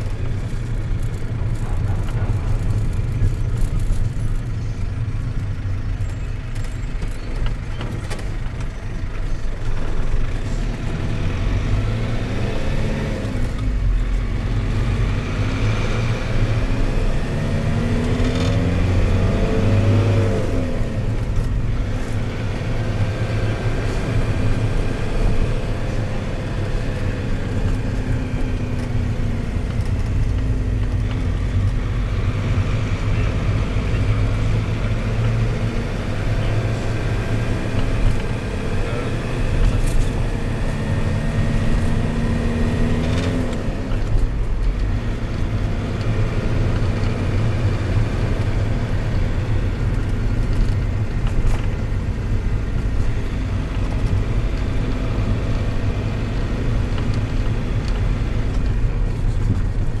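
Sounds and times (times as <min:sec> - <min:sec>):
minibus engine and road noise: 0:00.0 - 1:00.0.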